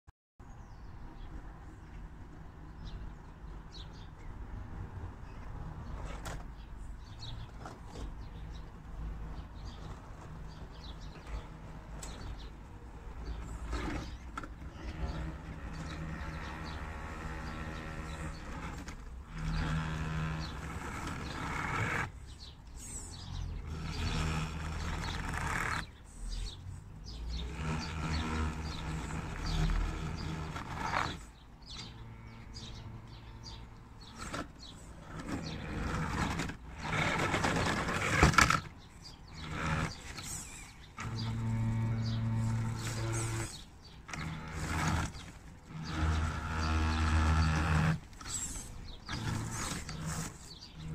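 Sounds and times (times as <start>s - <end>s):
electric motor and gears whining: 5.6s - 50.9s.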